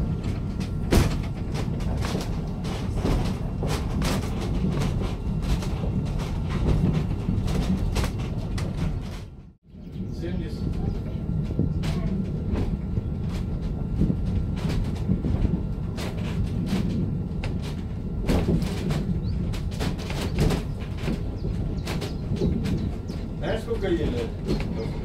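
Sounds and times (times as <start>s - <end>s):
funicular car rumbling on rails: 0.0s - 25.0s.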